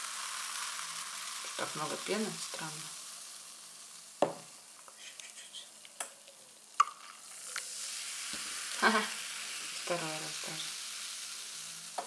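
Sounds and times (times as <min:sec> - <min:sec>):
soda fizzing in a cup: 0:00.0 - 0:12.0.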